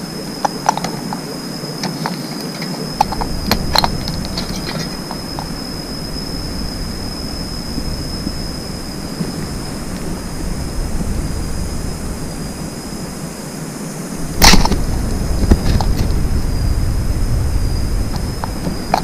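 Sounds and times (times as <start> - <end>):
steady rushing background: 0.0 - 19.0.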